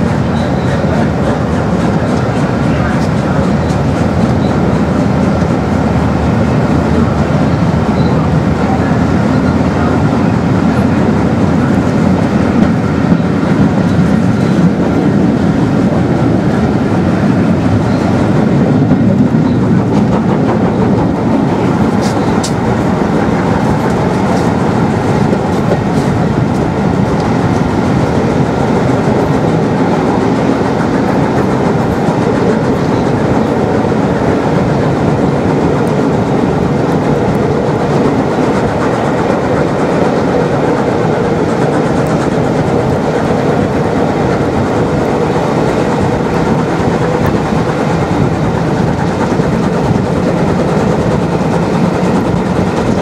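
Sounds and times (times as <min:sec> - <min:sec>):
train coach running on track: 0:00.0 - 0:53.0.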